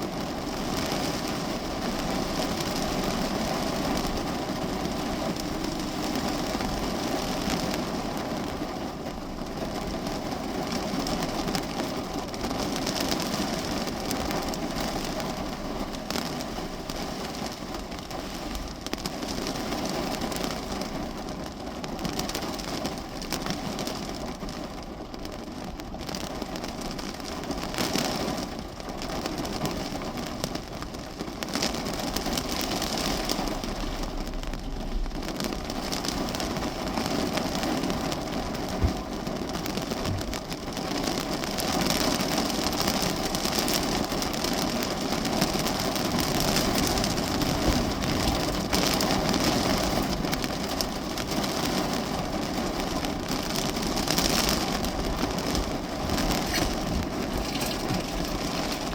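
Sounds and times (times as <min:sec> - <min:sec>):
heavy rain on car roof: 0:00.0 - 0:58.9.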